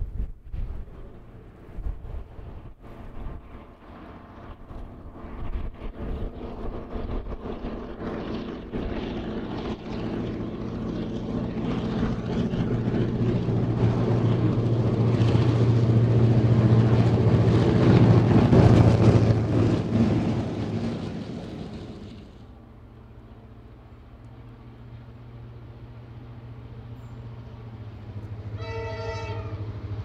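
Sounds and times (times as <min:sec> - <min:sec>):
diesel locomotives droning: 0:00.0 - 0:30.0.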